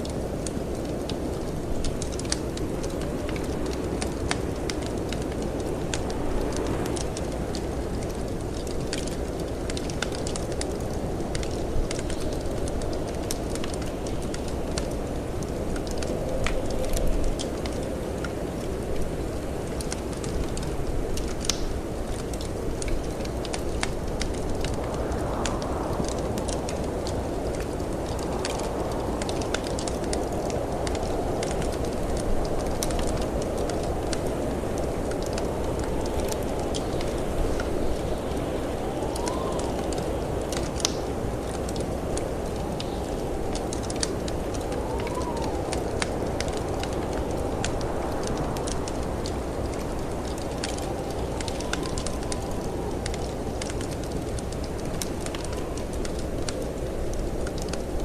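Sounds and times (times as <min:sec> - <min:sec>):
low rush of wind: 0:00.0 - 0:58.0
wood fire crackling: 0:00.0 - 0:58.0.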